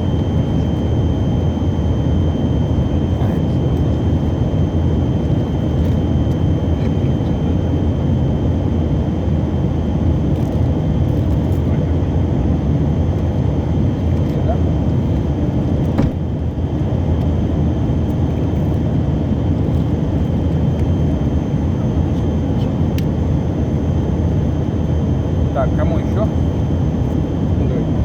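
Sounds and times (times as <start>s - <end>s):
airliner cabin engine noise: 0.0s - 28.0s
high jet whine: 0.0s - 28.0s.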